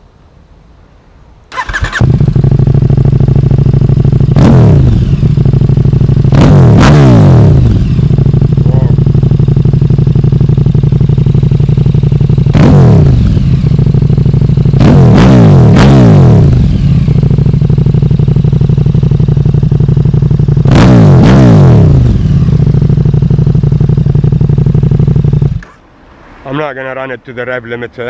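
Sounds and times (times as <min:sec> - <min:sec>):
motorcycle engine idling loudly: 0:01.6 - 0:25.8.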